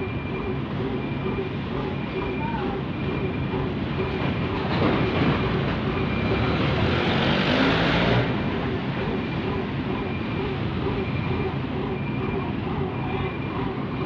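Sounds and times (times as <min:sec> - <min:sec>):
heavy diesel engines running: 0:00.0 - 0:14.0.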